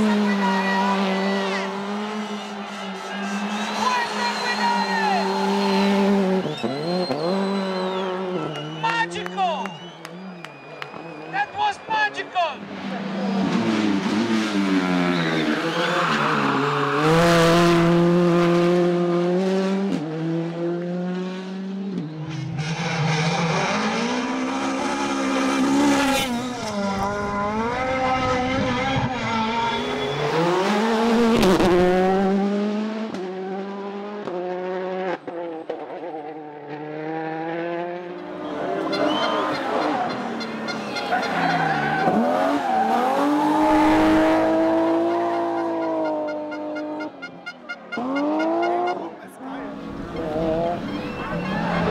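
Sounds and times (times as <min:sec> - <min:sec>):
rally car engine revving: 0:00.0 - 0:11.5, 0:12.6 - 0:47.2, 0:47.9 - 0:51.9.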